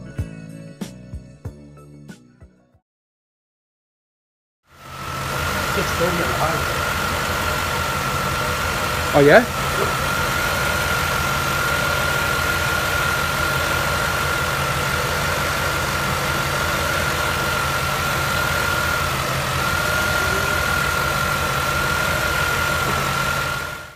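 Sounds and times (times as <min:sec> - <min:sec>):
car engine idling: 0:04.7 - 0:23.9.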